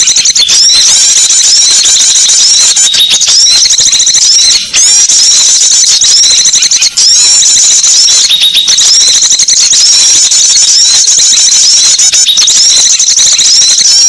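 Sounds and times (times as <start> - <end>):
songbirds chirping and twittering: 0.0 - 14.0.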